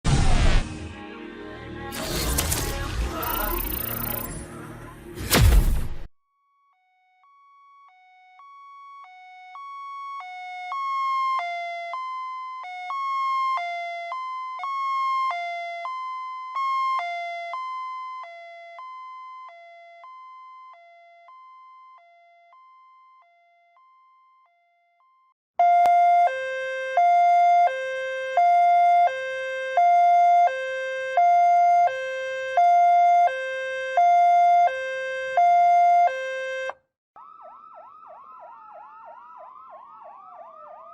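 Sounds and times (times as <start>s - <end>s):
loud two-tone siren: 3.2s - 4.8s, 6.7s - 40.9s
ambulance hi-lo siren: 3.2s - 5.2s, 6.8s - 40.9s.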